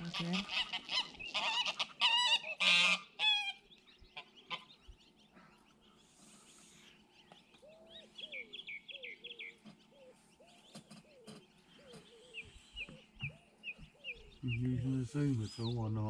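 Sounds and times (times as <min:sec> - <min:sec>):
geese calling softly: 0:00.0 - 0:16.0
goslings peeping: 0:00.0 - 0:16.0.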